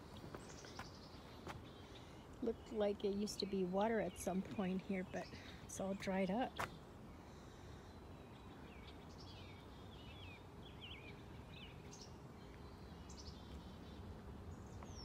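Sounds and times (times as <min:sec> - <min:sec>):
faint songbird chirps: 0:00.0 - 0:15.0.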